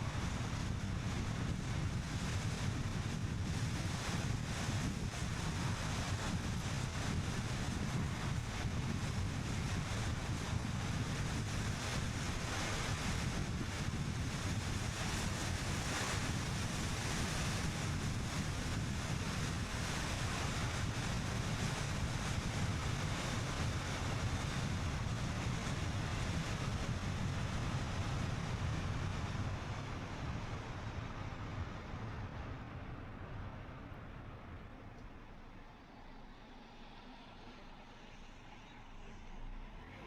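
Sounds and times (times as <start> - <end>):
wind rushing past car: 0.0 - 40.0.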